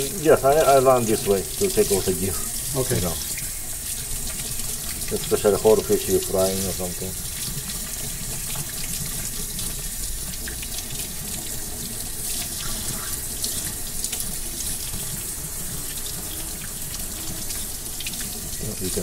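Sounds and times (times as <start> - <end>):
faucet running into steel sink: 0.0 - 19.0.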